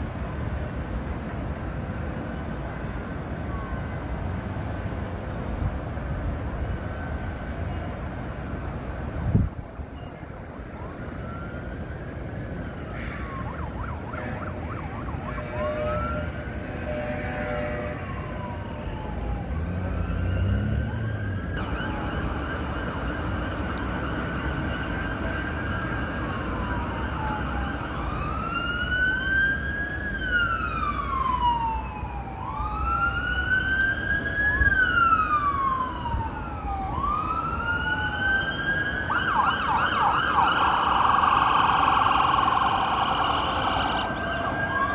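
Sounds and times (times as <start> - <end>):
emergency vehicle siren wailing: 0.0 - 44.9
low rumble of traffic: 0.0 - 44.9.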